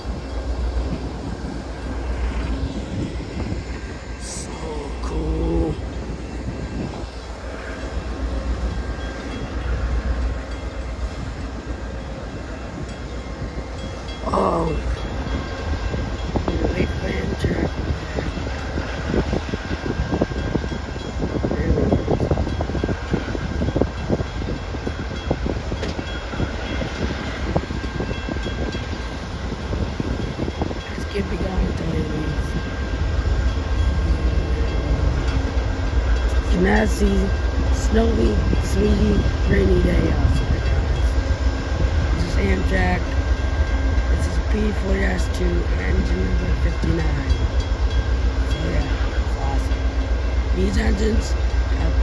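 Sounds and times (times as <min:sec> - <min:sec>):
train rolling past: 0:00.0 - 0:52.0
wind buffeting microphone: 0:00.0 - 0:52.0.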